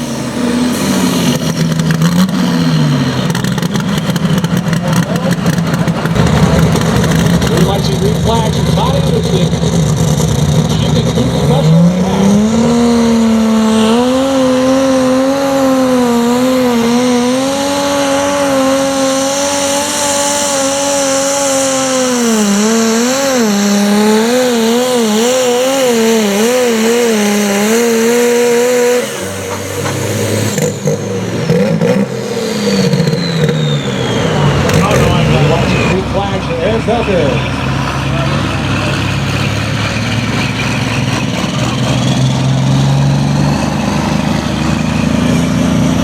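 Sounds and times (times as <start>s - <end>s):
diesel tractor engine revving: 0.0s - 46.0s.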